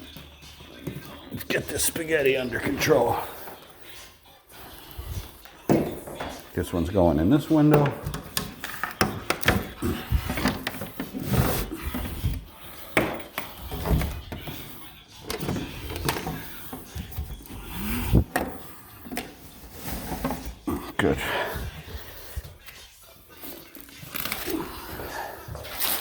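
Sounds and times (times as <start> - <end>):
knocks taps and scraping: 0.0 - 3.7, 4.5 - 24.4.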